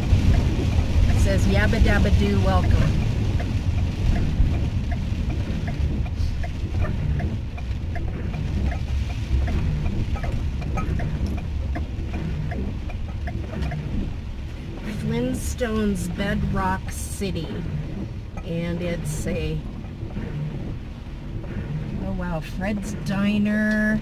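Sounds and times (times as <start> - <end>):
engine and road rumble: 0.0 - 24.0.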